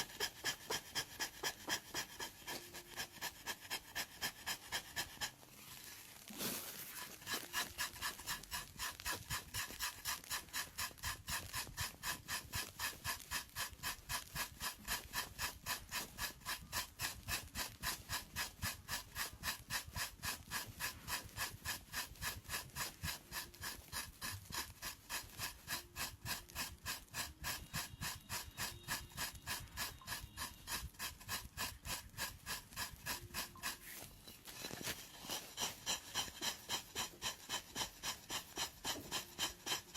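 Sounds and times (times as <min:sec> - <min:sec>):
tool scraping skin: 0:00.0 - 0:39.9.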